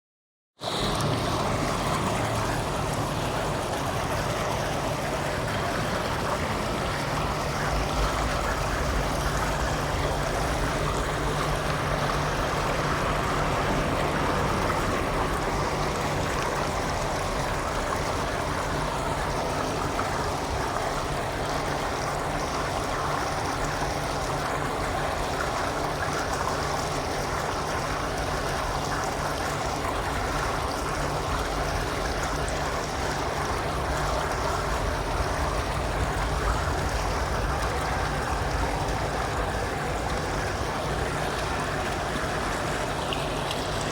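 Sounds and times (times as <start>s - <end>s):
rushing running water: 0.6s - 43.9s.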